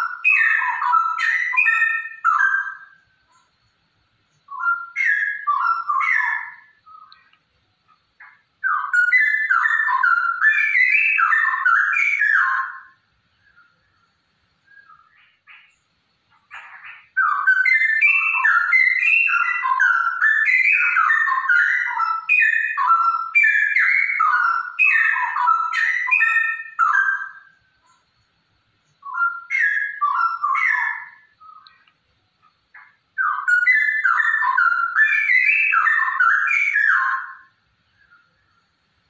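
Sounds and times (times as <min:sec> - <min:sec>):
bird singing bubbling whistled phrases: 0:00.0 - 0:03.5, 0:04.3 - 0:07.4, 0:08.2 - 0:13.9, 0:14.6 - 0:15.8, 0:16.5 - 0:28.0, 0:28.8 - 0:31.9, 0:32.8 - 0:38.6.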